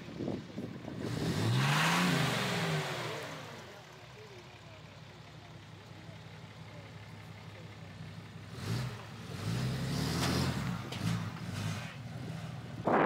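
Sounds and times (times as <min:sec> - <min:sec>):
diesel pickup engine accelerating: 0:00.0 - 0:13.0.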